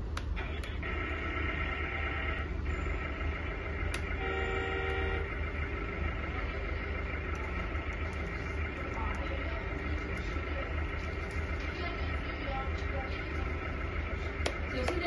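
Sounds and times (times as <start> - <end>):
low hum: 0.0 - 15.0
sustained electronic tones: 0.7 - 14.9.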